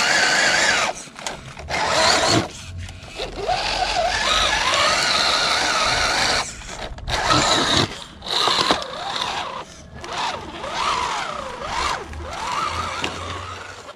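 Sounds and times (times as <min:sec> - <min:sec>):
electric motor whining: 0:00.0 - 0:13.9.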